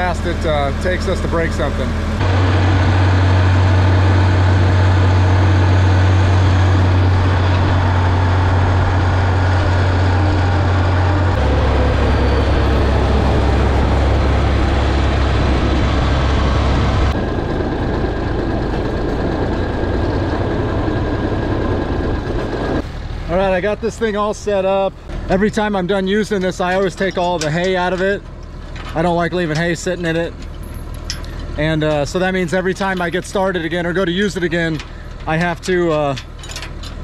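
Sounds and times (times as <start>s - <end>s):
tractor engine droning: 0.0s - 37.0s.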